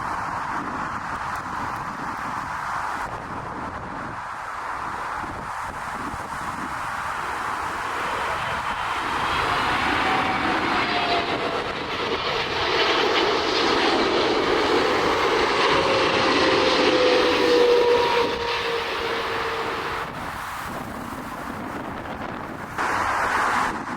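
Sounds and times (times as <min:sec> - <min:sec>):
jet engines whining and rushing: 0:00.0 - 0:23.9.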